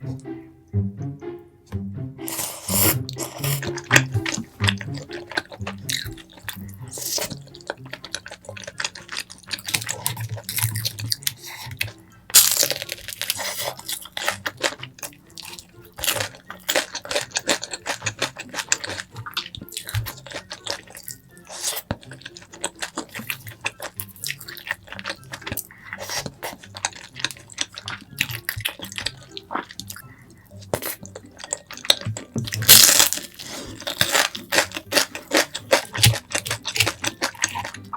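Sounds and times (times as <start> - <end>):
wet mouth eating sounds: 2.2 - 37.9.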